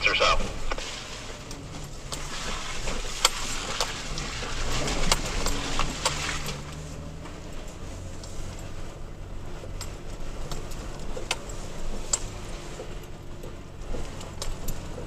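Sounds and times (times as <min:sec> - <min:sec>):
pickup engine and tyre noise: 0:00.0 - 0:15.0.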